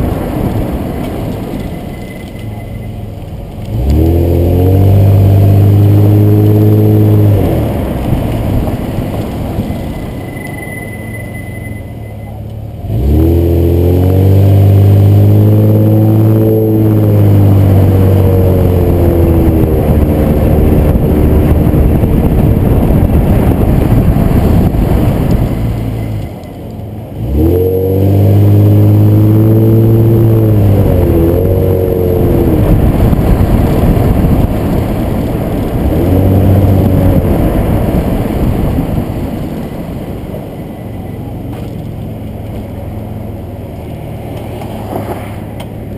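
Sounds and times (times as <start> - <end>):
car engine accelerating hard: 2.4 - 45.9.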